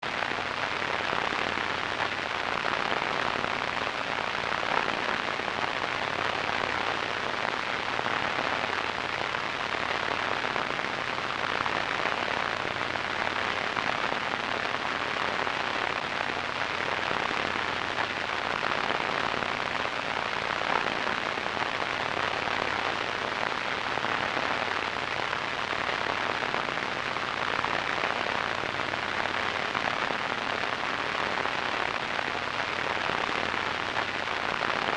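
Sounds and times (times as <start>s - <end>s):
radio static hiss and crackle: 0.1s - 34.9s.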